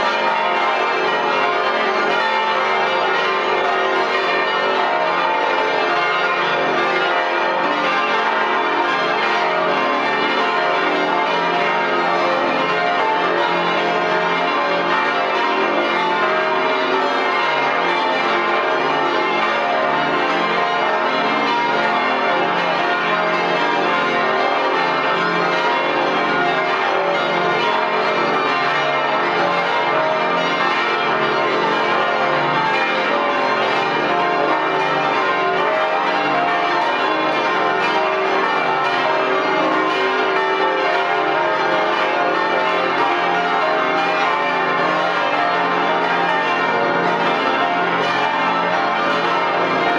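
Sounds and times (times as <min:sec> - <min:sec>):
church bells ringing: 0:00.0 - 0:49.9.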